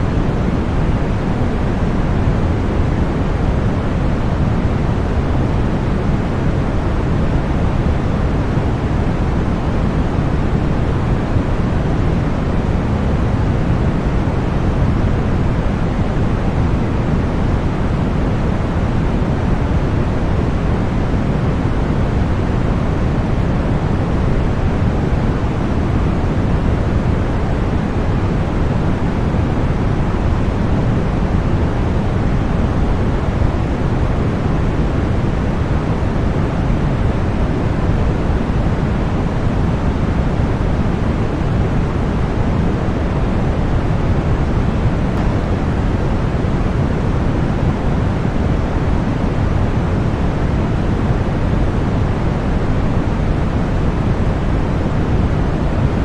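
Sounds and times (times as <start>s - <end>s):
deep white noise hiss: 0.0s - 56.0s.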